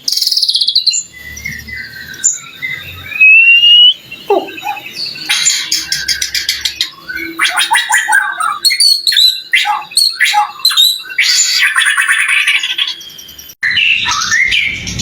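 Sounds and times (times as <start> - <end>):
bird singing loud varied song: 0.0 - 15.0.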